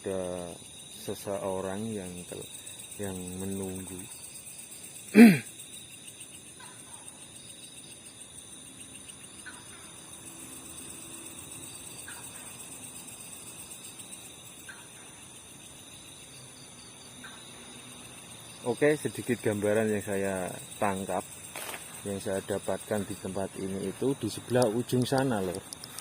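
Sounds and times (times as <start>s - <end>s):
crickets and insects chirping: 0.0s - 26.0s.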